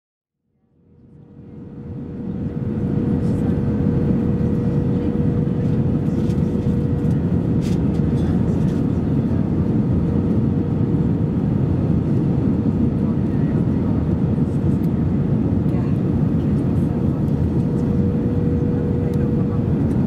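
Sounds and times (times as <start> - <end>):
airliner cabin engine rush: 1.0 - 20.0.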